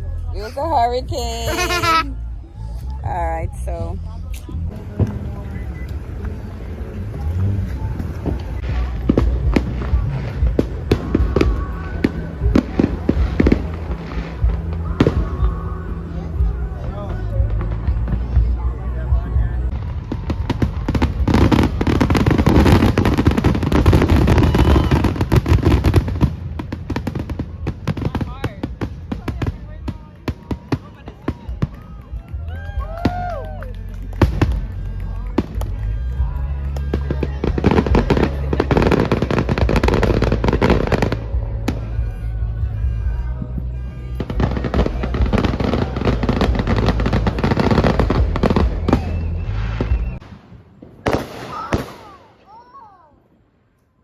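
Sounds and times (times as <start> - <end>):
low rumble: 0.0 - 30.0, 31.4 - 50.8
music playing: 0.0 - 50.2
fireworks bangs and crackles: 0.0 - 52.8.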